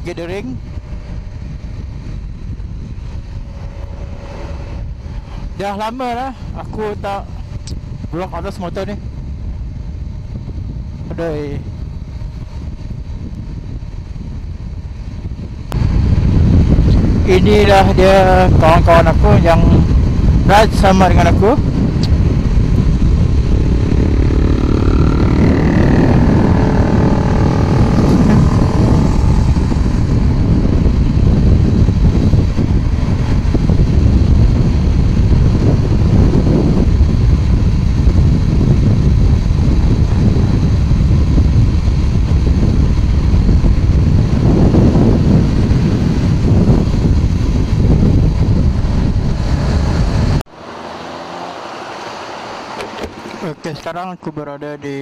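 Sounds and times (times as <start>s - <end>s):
motorcycle engine running: 0.0s - 8.1s, 8.7s - 50.4s
wind rush on microphone: 0.0s - 55.0s.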